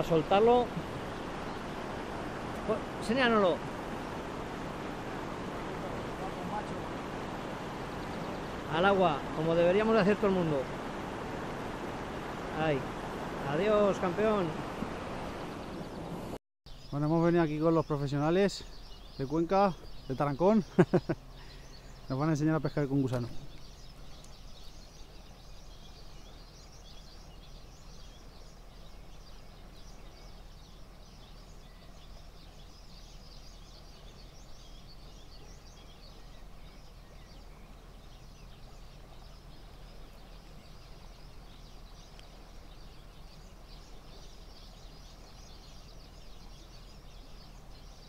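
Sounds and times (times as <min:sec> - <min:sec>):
outdoor background hiss: 0:00.0 - 0:48.0
small birds chirping: 0:00.0 - 0:48.0.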